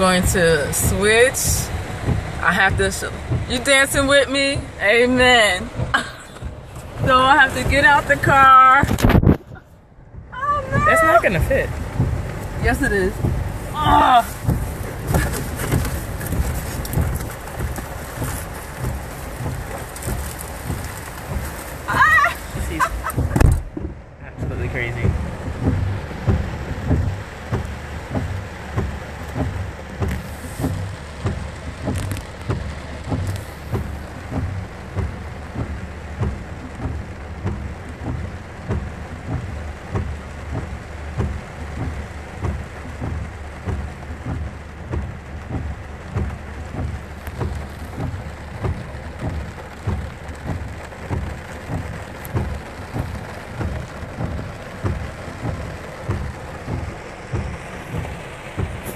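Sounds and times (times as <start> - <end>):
heavy rain pouring: 0.0 - 58.9
low thuds: 0.0 - 58.9.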